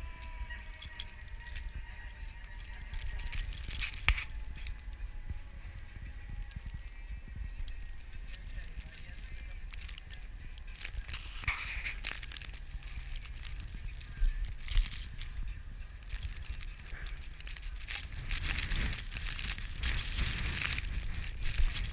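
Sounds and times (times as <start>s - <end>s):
crackling and crunching: 0.0s - 21.9s
wind rumbling on microphone: 0.0s - 21.9s.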